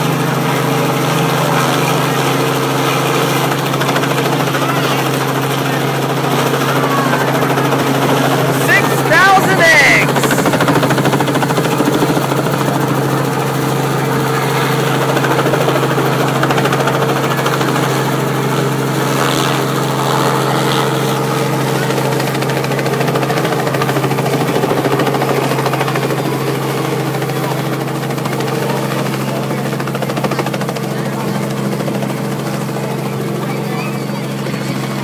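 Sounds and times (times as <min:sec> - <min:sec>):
helicopter flying overhead: 0:00.0 - 0:35.0.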